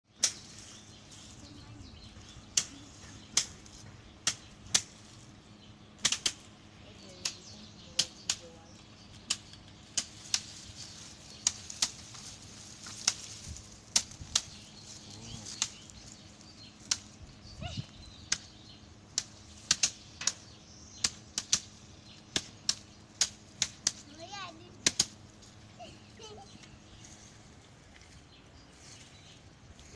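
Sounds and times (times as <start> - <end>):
sticks beating dried bean plants: 0.1 - 5.4, 6.0 - 25.6.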